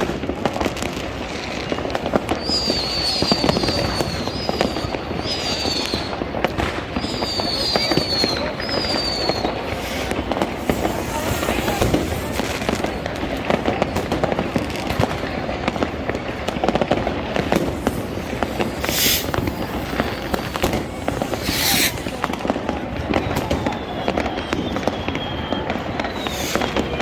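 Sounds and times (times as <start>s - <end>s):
fireworks bangs and crackling: 0.0s - 27.0s
faint firework whistle: 1.3s - 27.0s
firework hissing bursts: 1.4s - 14.3s, 15.2s - 23.7s, 25.6s - 27.0s.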